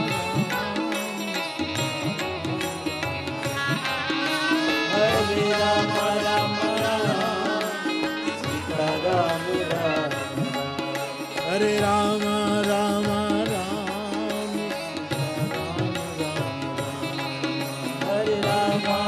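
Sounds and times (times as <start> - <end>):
person singing devotional melody: 0.0 - 19.0
tabla: 0.0 - 19.0.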